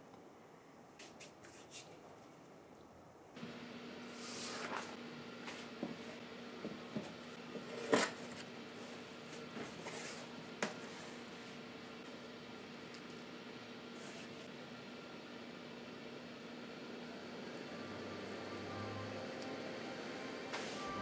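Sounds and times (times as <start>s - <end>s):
steady low hum: 3.4s - 21.0s.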